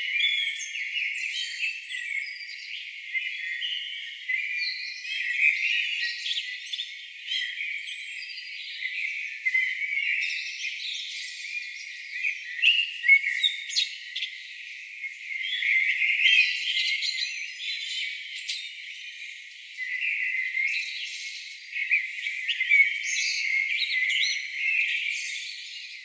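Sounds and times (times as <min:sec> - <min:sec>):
songbirds singing in chorus: 0:00.0 - 0:26.0.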